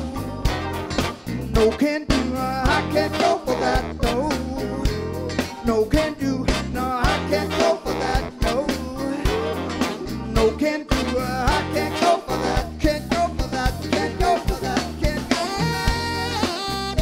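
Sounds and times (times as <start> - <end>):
person singing: 0.0 - 0.8, 1.4 - 16.8
bass guitar: 0.0 - 17.0
drum-kit beat: 0.0 - 17.0
electric guitar: 0.0 - 17.0.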